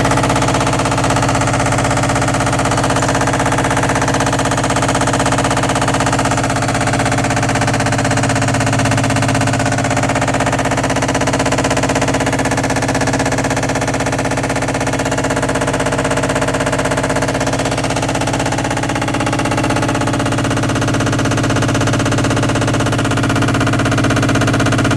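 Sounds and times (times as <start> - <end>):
washer dryer spin rattling: 0.0 - 24.9.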